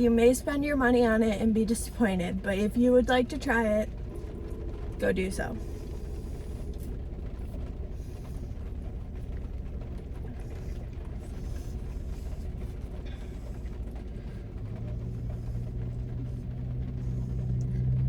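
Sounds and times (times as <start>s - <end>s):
rain heard inside a car: 0.0s - 18.0s
steady low hum: 0.0s - 18.0s.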